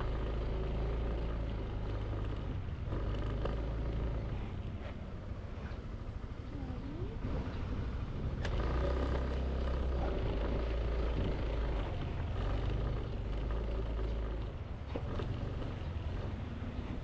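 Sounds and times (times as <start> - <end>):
scooter engine running: 0.0 - 6.1, 8.3 - 17.0
wind rumble on microphone: 0.0 - 17.0.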